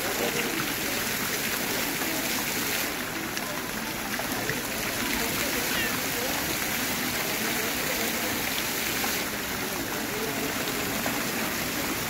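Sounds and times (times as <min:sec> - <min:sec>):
fountain splashing into pool: 0:00.0 - 0:12.0.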